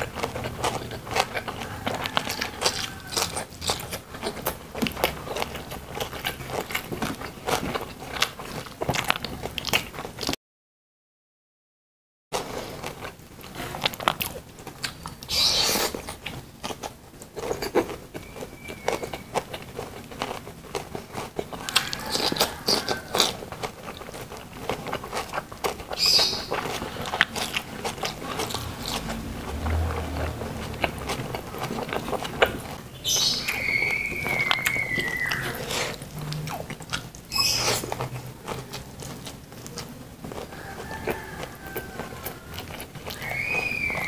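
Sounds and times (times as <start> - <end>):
person chewing food: 0.0 - 10.4, 12.4 - 44.0.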